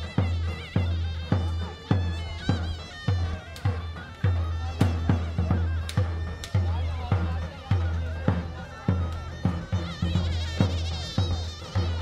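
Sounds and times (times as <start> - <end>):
reed pipe melody: 0.0 - 12.0.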